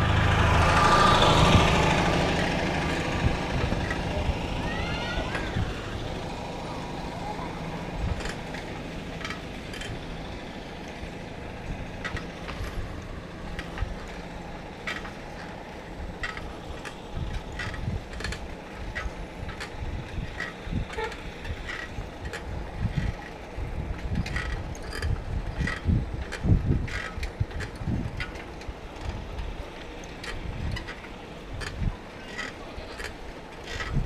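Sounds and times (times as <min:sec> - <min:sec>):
rattles and knocks from bumps: 0:00.0 - 0:34.0
wind and road noise: 0:00.0 - 0:34.0
wind buffeting microphone: 0:00.0 - 0:34.0.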